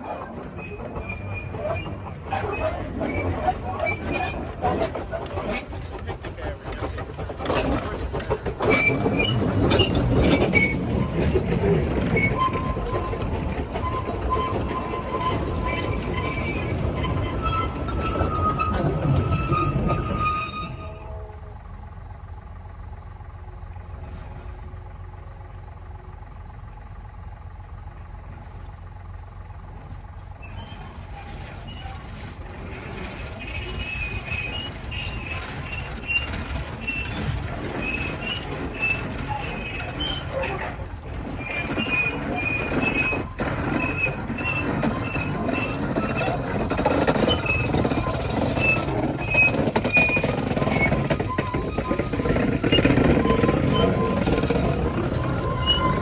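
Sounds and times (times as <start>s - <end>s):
steam train running past: 0.0s - 22.3s, 30.3s - 56.0s
wheels squealing: 0.0s - 23.4s, 30.0s - 56.0s
wheels clicking over rail joints: 0.0s - 56.0s.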